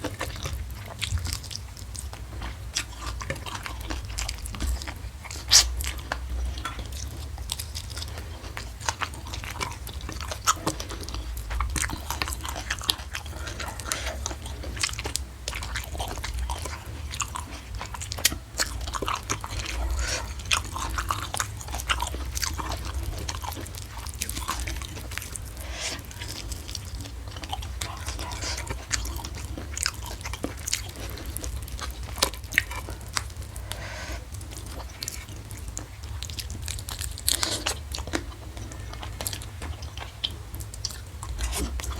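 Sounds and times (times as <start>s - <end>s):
crunchy food chewing: 0.0s - 41.9s
steady low hum: 0.0s - 41.9s.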